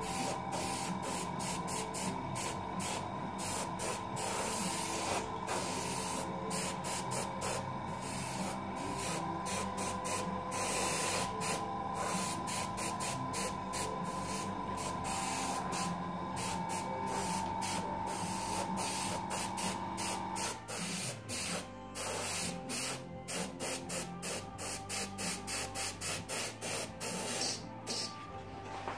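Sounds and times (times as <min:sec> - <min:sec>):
airbrush spraying hiss: 0:00.0 - 0:28.2.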